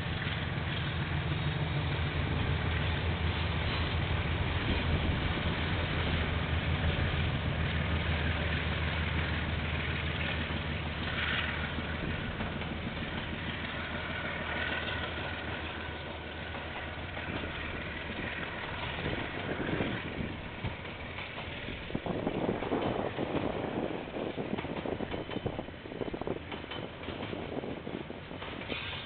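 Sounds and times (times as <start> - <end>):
diesel locomotive engines droning: 0.0 - 29.0
freight wagons rumbling past: 0.0 - 29.0.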